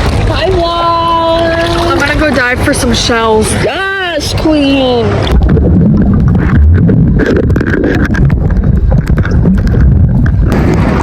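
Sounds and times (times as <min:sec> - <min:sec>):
muffled underwater water sloshing: 0:00.0 - 0:11.0.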